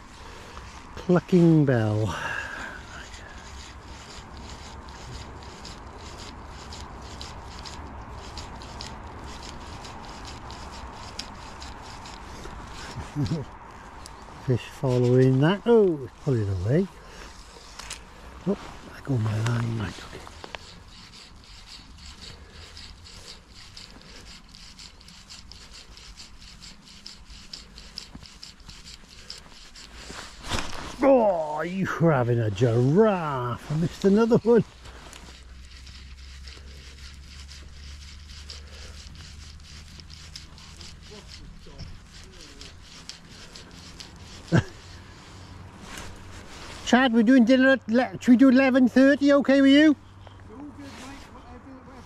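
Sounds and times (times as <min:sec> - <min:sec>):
fishing line rasping through fingers: 0:00.0 - 0:51.7.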